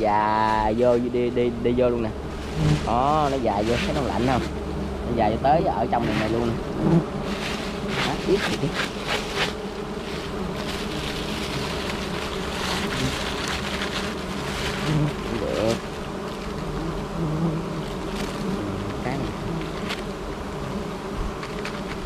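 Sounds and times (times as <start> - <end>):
bee flying past: 0.0 - 22.0
honeybees buzzing: 0.0 - 22.0.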